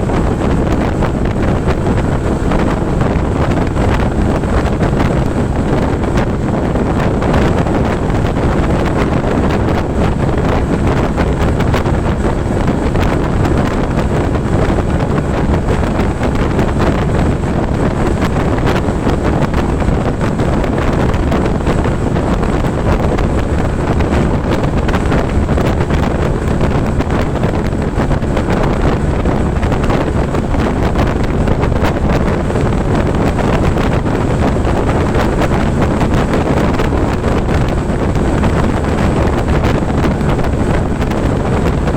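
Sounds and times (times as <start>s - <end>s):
scooter engine running: 0.0s - 41.9s
wind buffeting microphone: 0.0s - 41.9s.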